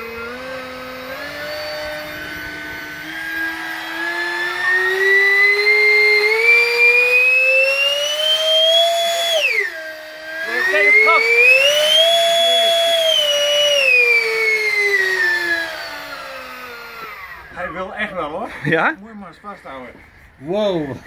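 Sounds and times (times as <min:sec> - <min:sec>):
electric ducted fan whine: 0:00.0 - 0:20.0.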